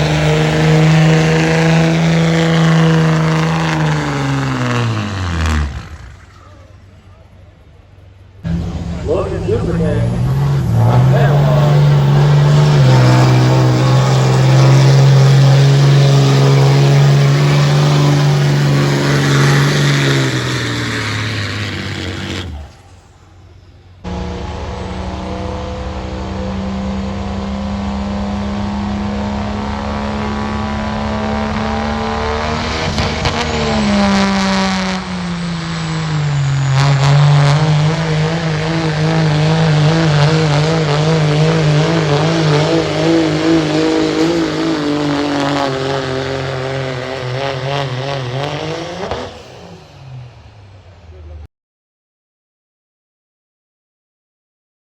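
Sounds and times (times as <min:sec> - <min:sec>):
truck engines revving hard: 0:00.0 - 0:51.5.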